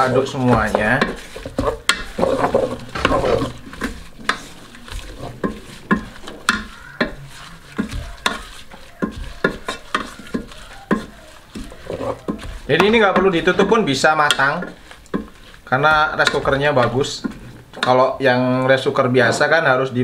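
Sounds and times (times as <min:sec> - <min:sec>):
wooden spatula scraping a pot: 0:00.0 - 0:19.5.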